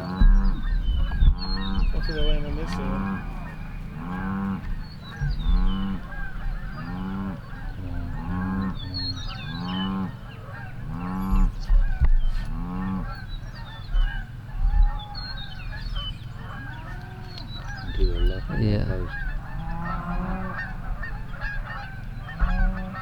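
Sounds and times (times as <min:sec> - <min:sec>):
flock of geese calling: 0:00.0 - 0:23.0
goose loud honk: 0:00.0 - 0:23.0.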